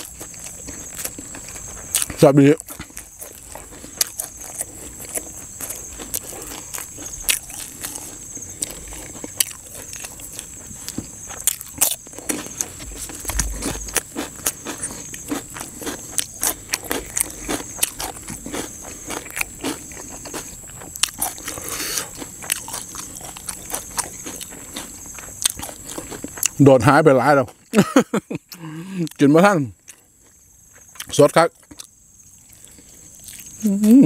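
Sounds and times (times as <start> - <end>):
person chewing and crunching: 0.0 - 34.0.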